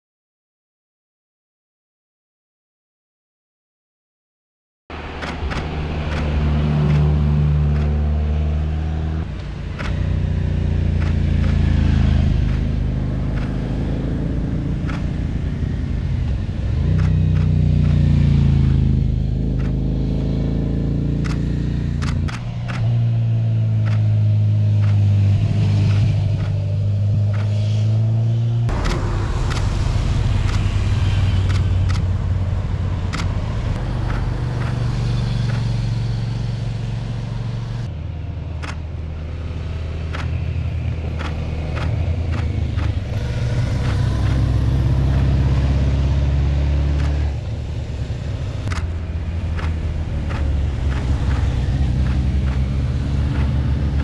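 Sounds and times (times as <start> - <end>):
vehicle engines passing: 4.9 - 54.0.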